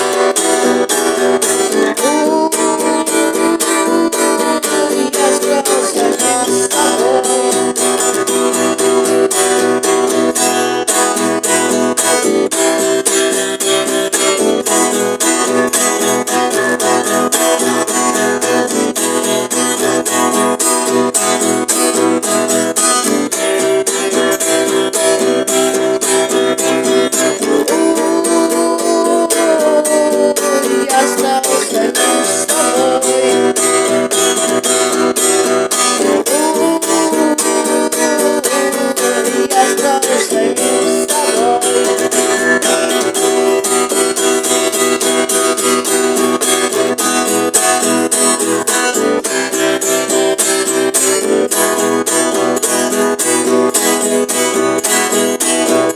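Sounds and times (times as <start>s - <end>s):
bass guitar: 0.0s - 55.9s
lead guitar line: 0.0s - 55.9s
strummed guitar chords: 0.0s - 55.9s.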